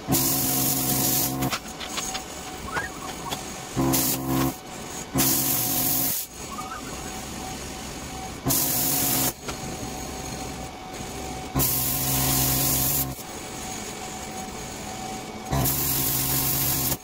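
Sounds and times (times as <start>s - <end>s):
power tool cutting sheet metal: 0.0s - 13.2s, 13.8s - 17.0s.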